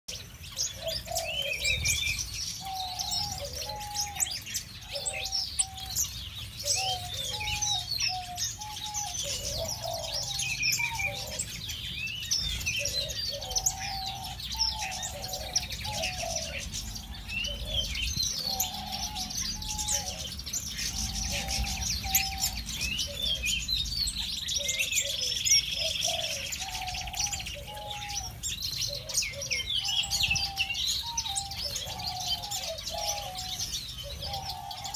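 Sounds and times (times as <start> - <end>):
finches chirping: 0.1 - 34.9.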